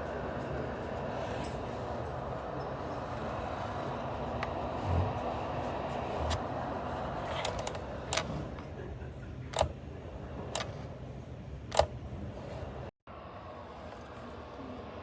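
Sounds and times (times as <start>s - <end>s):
space heater fan whirring: 0.0s - 15.0s.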